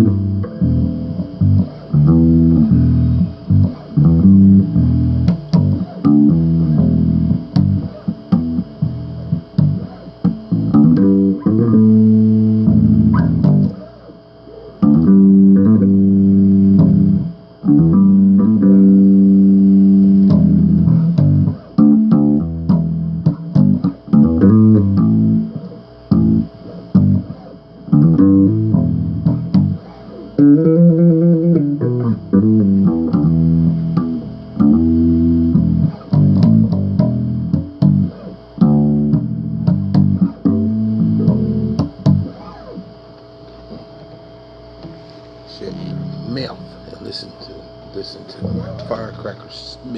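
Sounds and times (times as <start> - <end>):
bass guitar riffing: 0.0 - 49.9.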